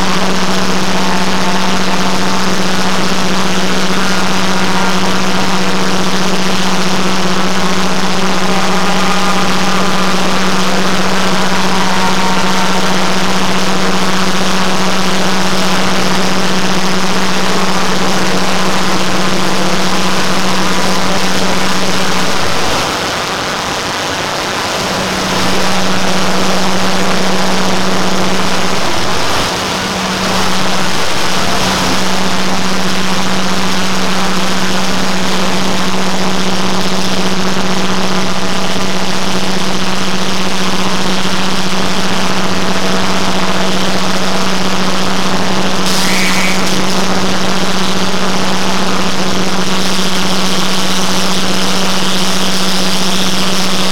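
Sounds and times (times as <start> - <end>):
dense roar of overlapping soundtracks: 0.0 - 53.9
loud steady hum: 0.0 - 53.9.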